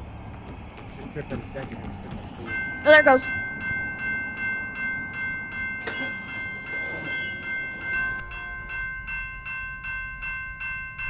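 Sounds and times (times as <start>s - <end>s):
railroad crossing bell ringing: 1.2s - 11.0s.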